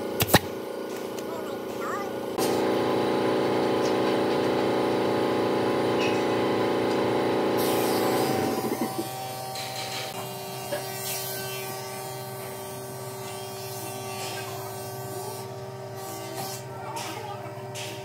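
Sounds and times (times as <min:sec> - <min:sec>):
electric motor humming: 0:00.0 - 0:17.3.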